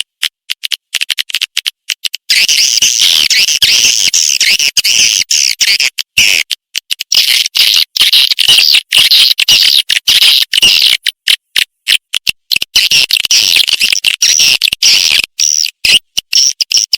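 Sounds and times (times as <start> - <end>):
swiftlet chirps and clicks: 2.0 - 16.9.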